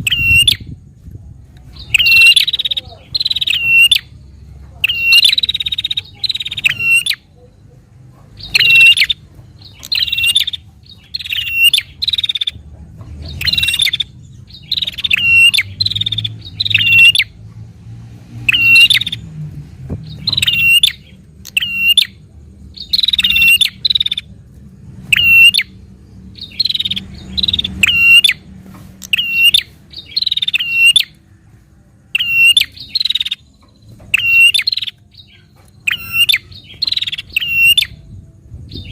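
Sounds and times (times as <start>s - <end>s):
bird sharp chirping bursts: 0.0s - 0.8s, 1.7s - 7.4s, 8.4s - 12.6s, 13.2s - 17.4s, 18.3s - 19.4s, 20.0s - 24.4s, 25.0s - 31.2s, 32.1s - 38.9s.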